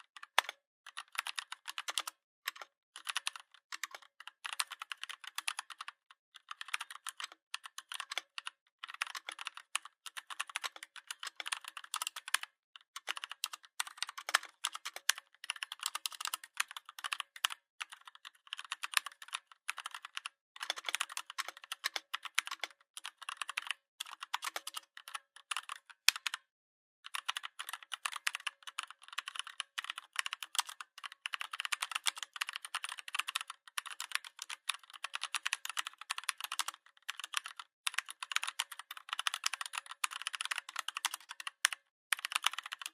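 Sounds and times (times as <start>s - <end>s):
fast mechanical keyboard typing: 0.2s - 26.4s, 27.1s - 42.9s.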